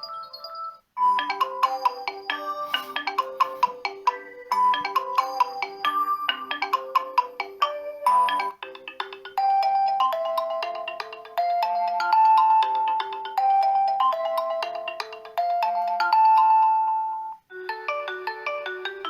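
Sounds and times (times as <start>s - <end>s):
quick mallet-like ringtone melody: 0.0s - 19.0s
ringtone melody with held notes: 0.0s - 19.0s.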